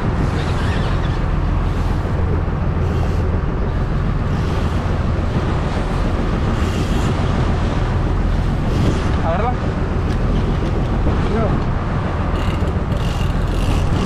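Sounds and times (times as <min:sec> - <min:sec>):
boat engine humming: 0:00.0 - 0:14.0
rushing wind and water: 0:00.0 - 0:14.0.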